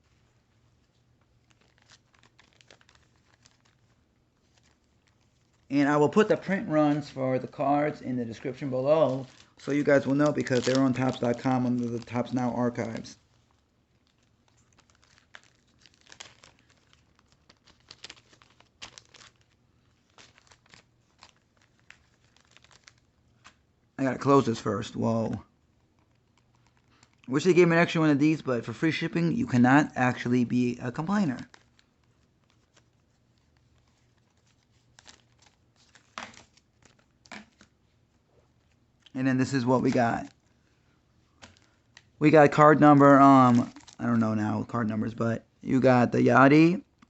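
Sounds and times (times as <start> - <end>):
card packaging crinkling: 0.0 - 45.2.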